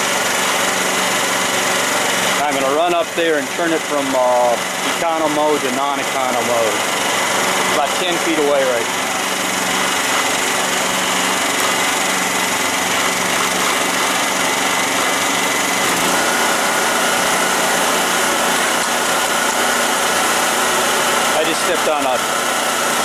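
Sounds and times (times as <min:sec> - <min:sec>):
generator engine running: 0:00.0 - 0:23.0.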